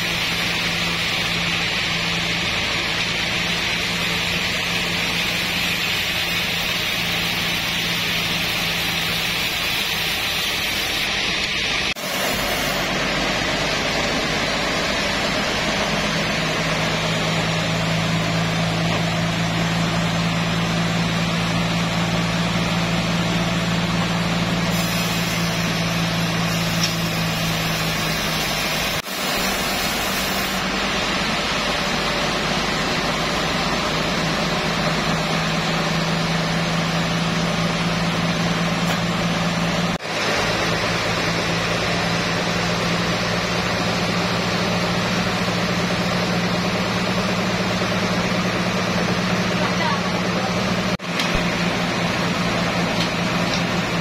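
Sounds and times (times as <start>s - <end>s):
sawmill machine drone: 0.0s - 54.0s.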